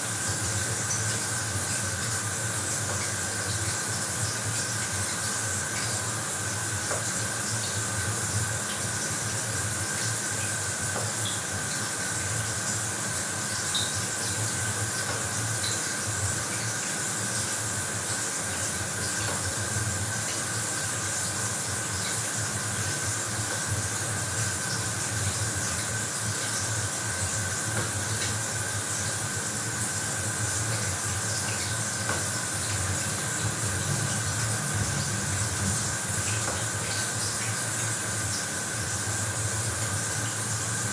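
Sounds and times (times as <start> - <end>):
shower water spraying: 0.0 - 40.9.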